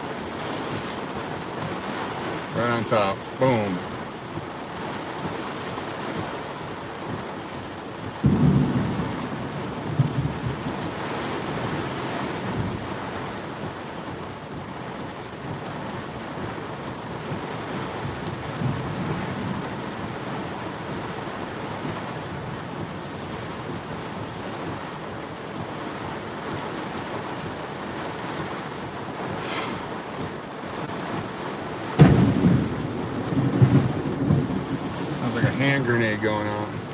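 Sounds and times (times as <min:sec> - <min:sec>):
heavy rain on a car: 0:00.0 - 0:36.9
gusting wind: 0:04.6 - 0:35.3.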